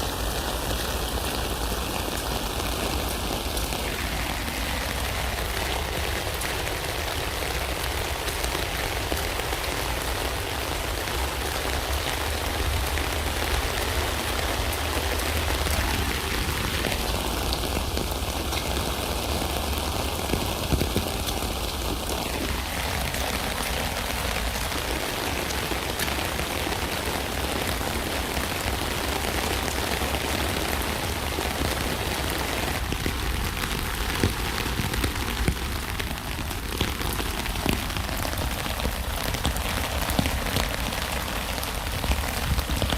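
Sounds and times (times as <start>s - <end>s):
rain pattering on a tent: 0.0s - 42.9s.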